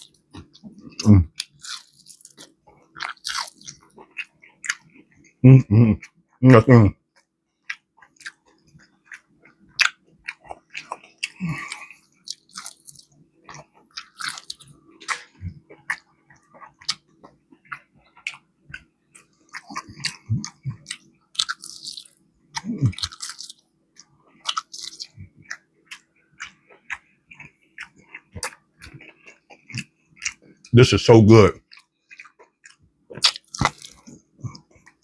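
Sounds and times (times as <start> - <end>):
chewing crispy chicken: 0.0 - 35.0.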